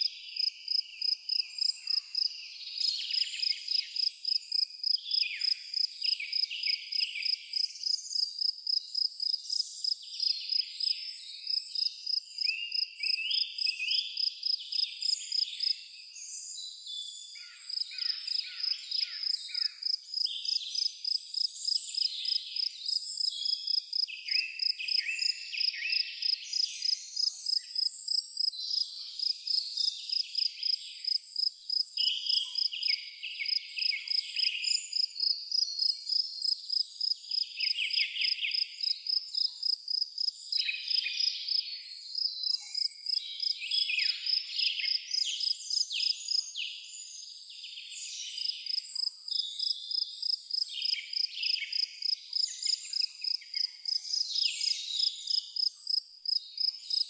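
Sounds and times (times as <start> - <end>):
cricket chirping: 0.0 - 16.5, 17.3 - 57.0.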